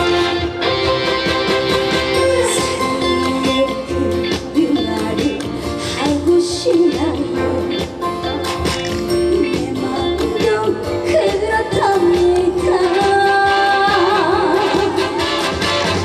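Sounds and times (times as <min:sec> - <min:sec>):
guitar: 0:00.0 - 0:16.0
live band playing trot song: 0:00.0 - 0:16.0.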